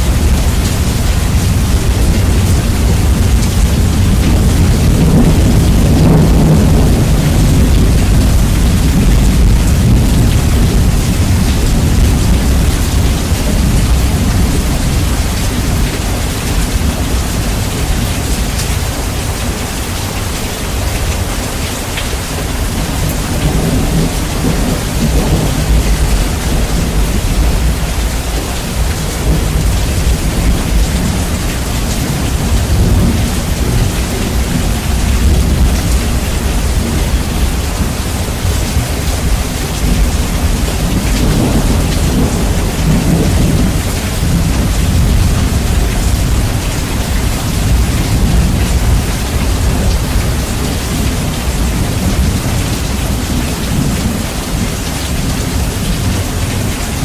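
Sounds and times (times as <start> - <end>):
deep rolling thunder: 0.0 - 57.0
heavy rain: 0.0 - 57.0.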